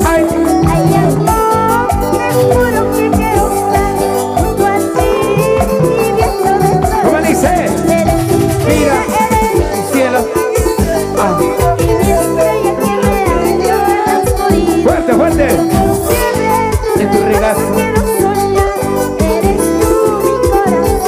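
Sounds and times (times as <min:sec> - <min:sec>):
latin dance band music: 0:00.0 - 0:21.0.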